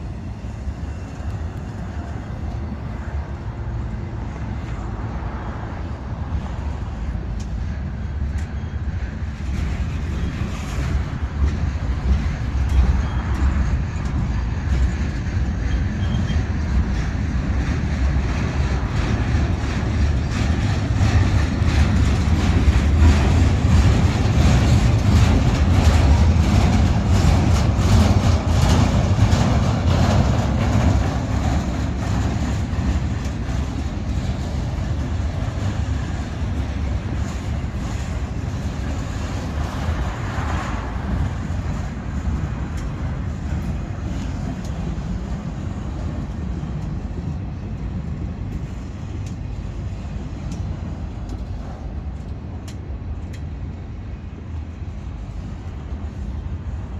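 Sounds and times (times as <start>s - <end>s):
freight train rumbling on rails: 0.0s - 56.9s
train wheels clicking and clattering: 0.0s - 56.9s.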